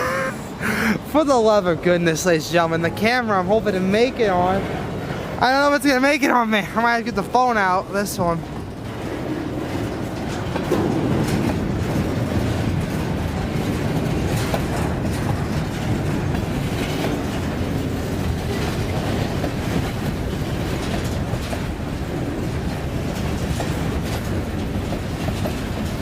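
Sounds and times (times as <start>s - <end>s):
train wheels rumbling: 0.0s - 26.0s
wheels clicking on rail joints: 0.0s - 26.0s.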